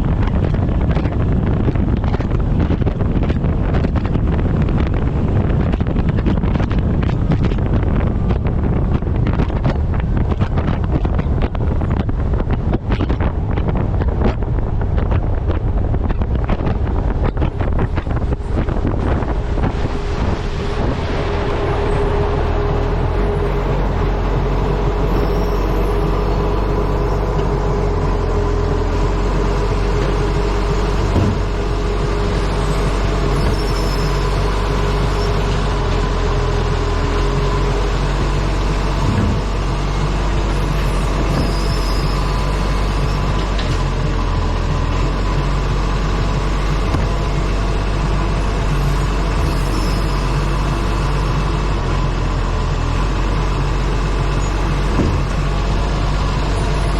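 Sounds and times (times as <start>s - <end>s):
road noise: 0.0s - 56.9s
truck engine rumble: 0.0s - 56.9s
wind buffeting microphone: 0.0s - 56.9s.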